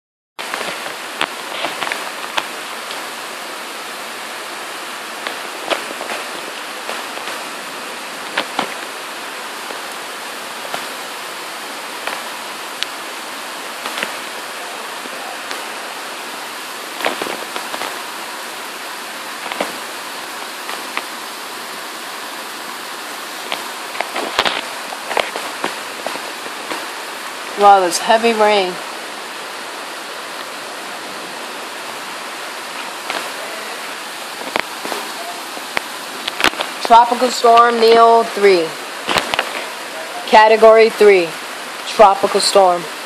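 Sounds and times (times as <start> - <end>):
drips and splats: 0.4 - 38.0, 38.7 - 40.4
heavy rain pouring: 0.4 - 43.0.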